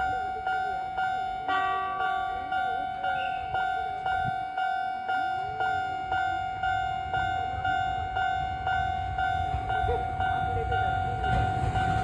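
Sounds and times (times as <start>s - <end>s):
level crossing alarm dinging: 0.0s - 12.0s
train rumbling: 0.0s - 12.0s.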